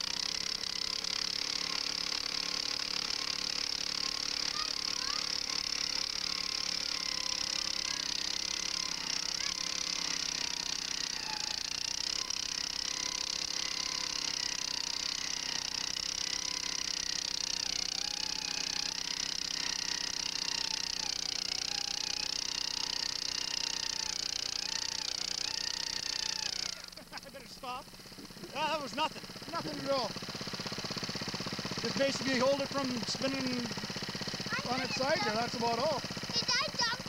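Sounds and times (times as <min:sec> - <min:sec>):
earth auger engine running: 0:00.0 - 0:37.0.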